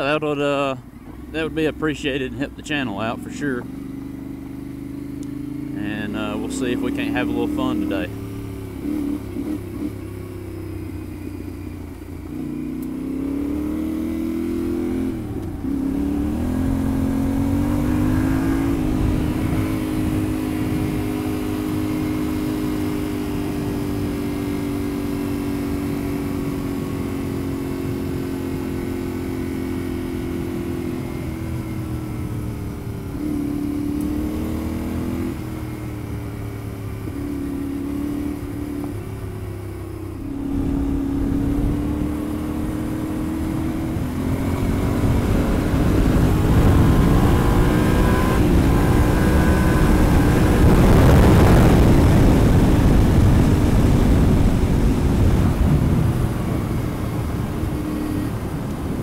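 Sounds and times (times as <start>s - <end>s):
motorcycle engine under way: 0.0s - 59.0s.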